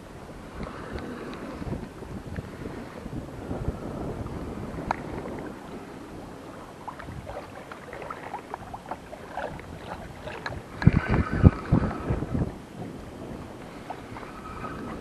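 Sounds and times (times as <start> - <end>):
waves lapping against boat hull: 0.0 - 15.0
wind buffeting microphone: 0.0 - 15.0.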